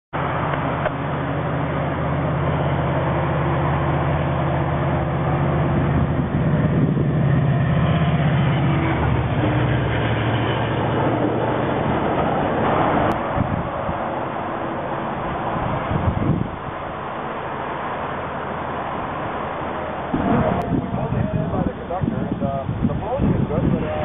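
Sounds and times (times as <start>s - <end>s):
diesel locomotive engine droning: 0.2s - 24.0s
train coaches rumbling on rails: 0.2s - 24.0s.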